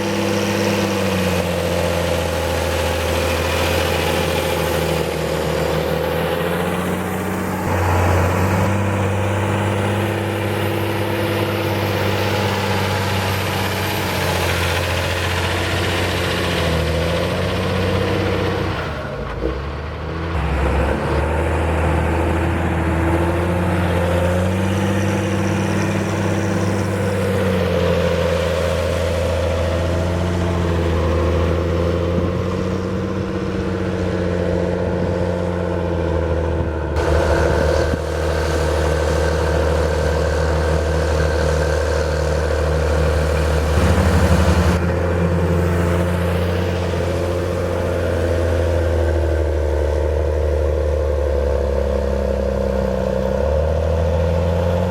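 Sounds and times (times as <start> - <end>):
tractor diesel engine working: 0.0 - 54.9.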